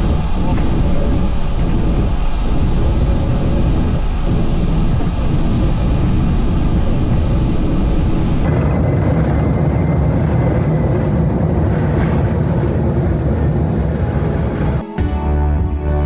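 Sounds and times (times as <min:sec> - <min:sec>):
jet engine noise: 0:00.0 - 0:14.8
jet whine: 0:00.0 - 0:14.8
wheels roaring on runway: 0:00.0 - 0:14.8.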